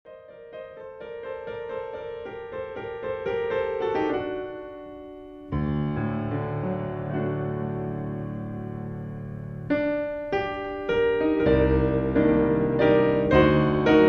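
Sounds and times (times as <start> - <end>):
piano music: 0.1 - 14.0.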